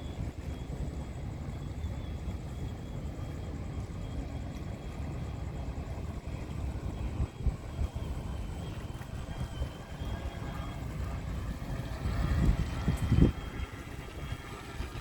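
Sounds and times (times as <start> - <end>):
faint high whine: 0.0 - 15.0
wind buffeting microphone: 0.0 - 15.0.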